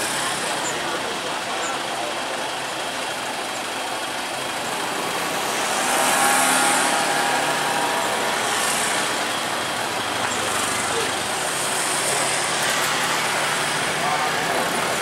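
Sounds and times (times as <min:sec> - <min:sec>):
street traffic noise: 0:00.0 - 0:15.0
vehicle engine: 0:00.0 - 0:15.0.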